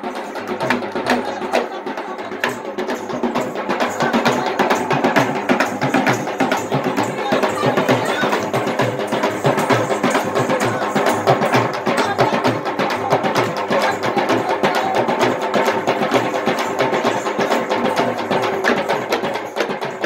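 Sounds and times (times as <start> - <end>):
barrel drum beaten fast: 0.0 - 20.0.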